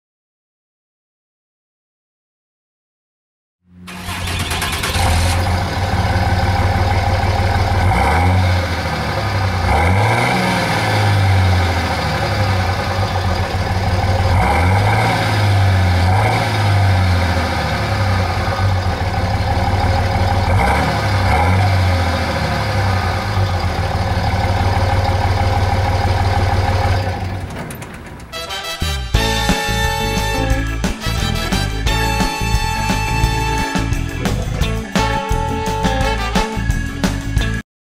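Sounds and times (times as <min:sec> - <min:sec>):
diesel engine idling and revving: 0:03.8 - 0:37.6.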